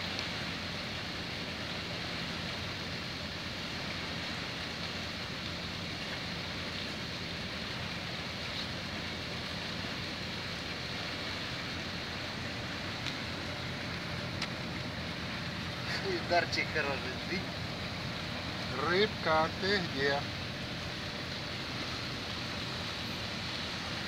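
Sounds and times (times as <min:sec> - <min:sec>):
ferry engines droning: 0:00.0 - 0:24.0
propeller wash churning water: 0:00.0 - 0:24.0.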